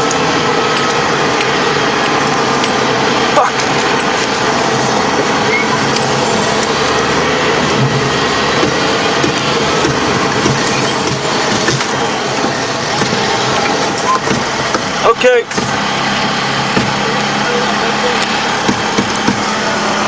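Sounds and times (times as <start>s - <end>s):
armoured vehicle diesel engine drone: 0.0s - 20.0s.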